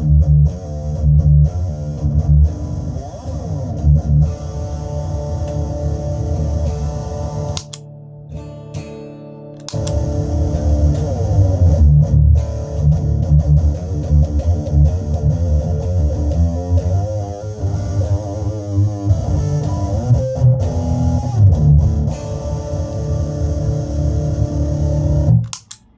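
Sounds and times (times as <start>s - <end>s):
overdriven electric guitar riff: 0.0s - 25.9s.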